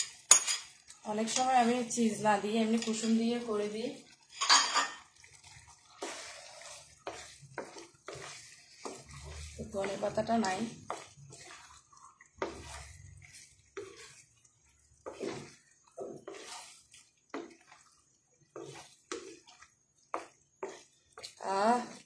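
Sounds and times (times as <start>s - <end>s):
wooden spatula stirring saucy pasta: 0.0s - 4.4s, 5.0s - 22.0s.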